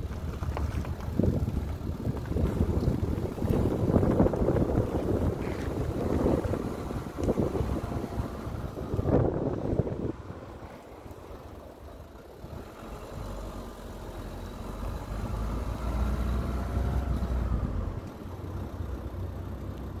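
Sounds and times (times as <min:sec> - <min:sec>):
tyre rolling on asphalt: 0:00.0 - 0:19.2
car engine: 0:00.0 - 0:20.0
wind: 0:00.0 - 0:20.0.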